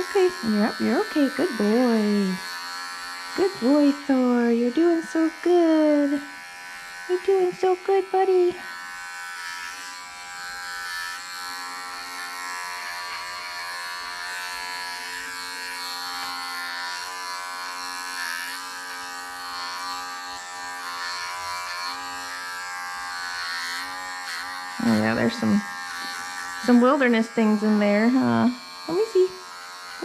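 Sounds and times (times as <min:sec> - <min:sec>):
electric pet clippers buzzing: 0:00.0 - 0:30.0.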